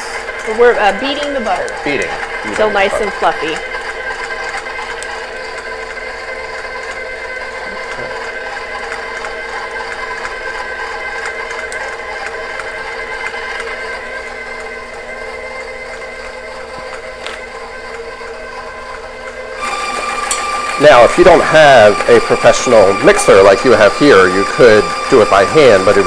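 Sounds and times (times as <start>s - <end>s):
stand mixer motor whine: 0.0s - 26.0s
whisk beating butter in bowl: 0.0s - 26.0s.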